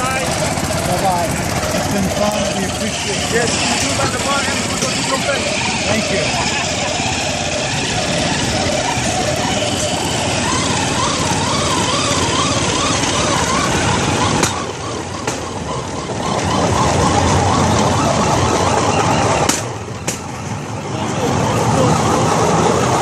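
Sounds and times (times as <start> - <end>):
wheels clacking on rail joints: 0.0 - 20.7
rail vehicle rumble: 0.0 - 23.0
small petrol engine running: 0.0 - 23.0.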